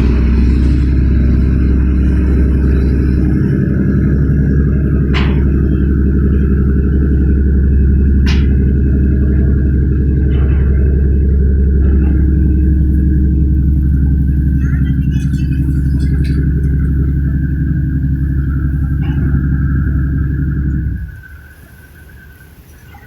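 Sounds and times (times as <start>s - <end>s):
loud low rumble: 0.0s - 21.5s.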